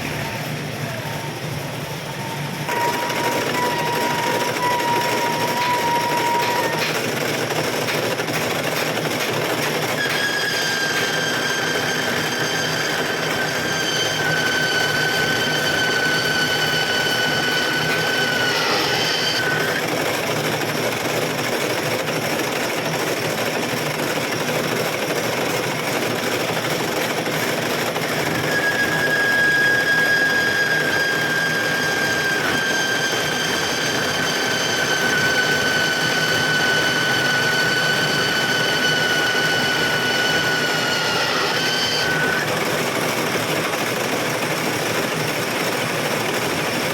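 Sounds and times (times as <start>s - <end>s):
metal lathe whining: 0.0s - 46.9s.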